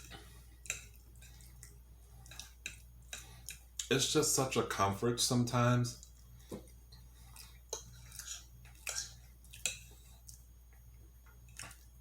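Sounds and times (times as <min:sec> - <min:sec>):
chewing: 0:00.0 - 0:04.0, 0:06.0 - 0:12.0
low steady hum: 0:00.0 - 0:12.0.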